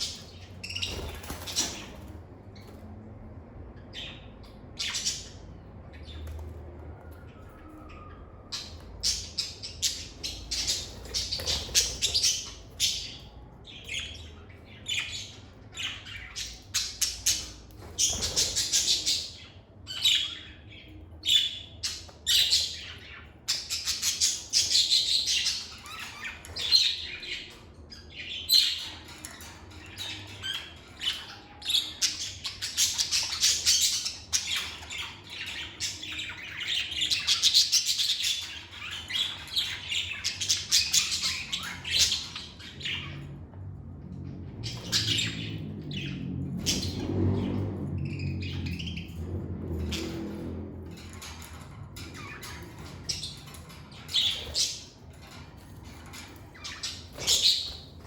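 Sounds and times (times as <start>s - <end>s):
lovebirds chirping and squawking: 0.0s - 58.0s.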